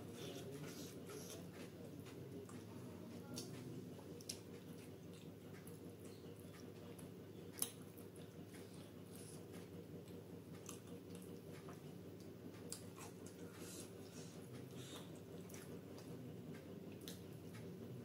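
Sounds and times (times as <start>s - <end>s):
soft chewing: 0.0s - 18.0s.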